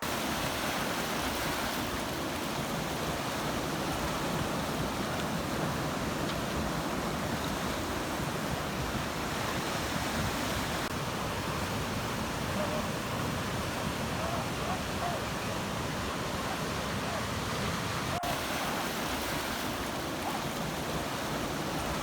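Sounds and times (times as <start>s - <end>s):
waves washing on shore: 0.0s - 22.0s.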